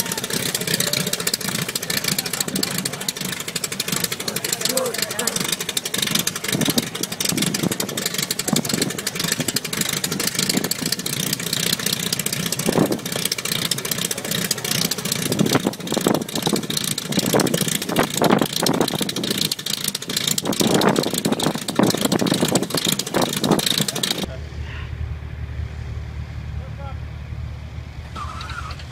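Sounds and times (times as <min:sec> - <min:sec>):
biplane engine running unevenly: 0:00.0 - 0:28.9.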